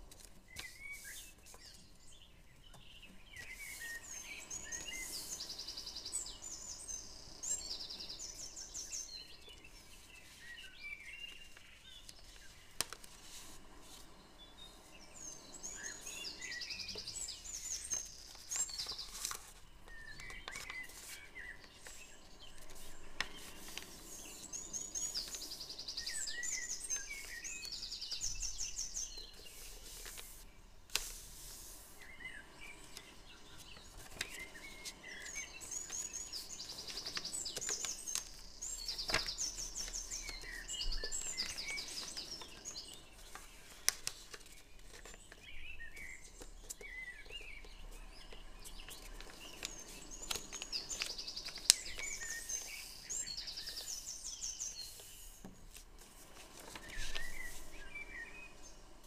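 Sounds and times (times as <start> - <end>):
paper rustling and creasing: 0.0 - 1.9, 3.4 - 6.0, 9.8 - 15.0, 15.7 - 46.9, 48.3 - 58.6
small bird singing trills: 0.4 - 12.8, 14.2 - 30.0, 32.0 - 44.6, 45.2 - 55.4, 56.8 - 59.0.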